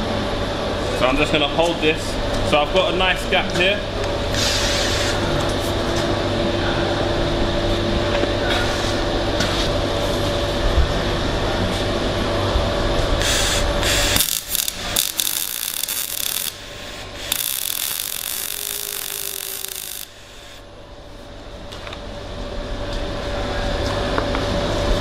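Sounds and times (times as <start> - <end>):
fan-like hum with hiss: 0.0 - 25.0.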